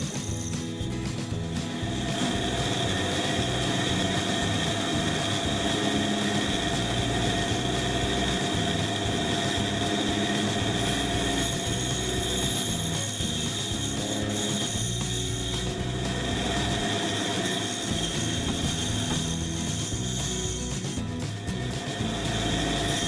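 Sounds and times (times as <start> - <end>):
band saw cutting wood: 0.0 - 23.0.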